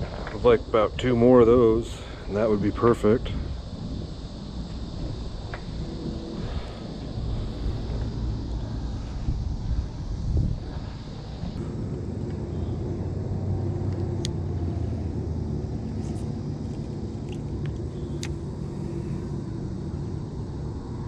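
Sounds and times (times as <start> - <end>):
engine running with low rumble: 0.0 - 21.0.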